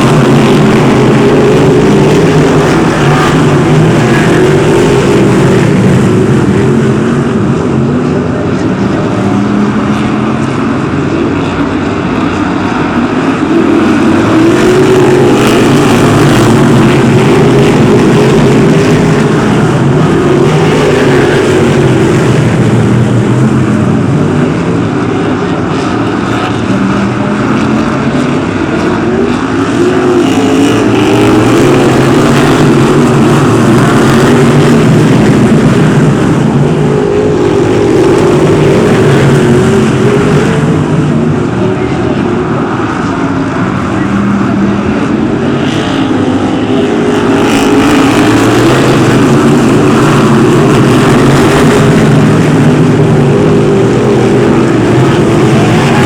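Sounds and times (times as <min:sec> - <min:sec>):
racing car engines: 0:00.0 - 0:56.0.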